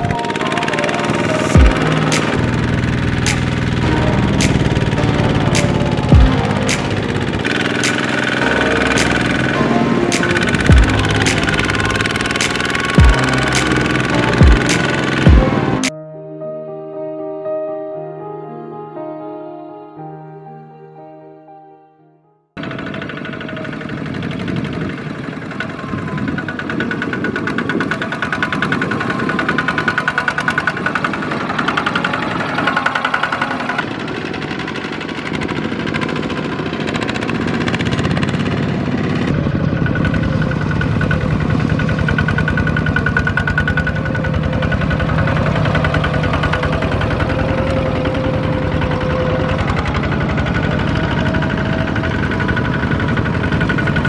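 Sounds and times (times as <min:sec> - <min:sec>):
diesel tractor engines chugging: 0:00.0 - 0:15.9, 0:22.6 - 0:54.0.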